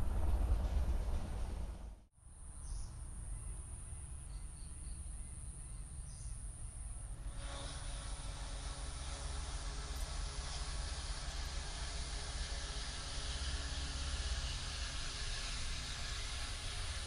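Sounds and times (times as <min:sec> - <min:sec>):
low train rumble: 0:00.0 - 0:17.0
steady high-pitched whine: 0:00.0 - 0:17.0.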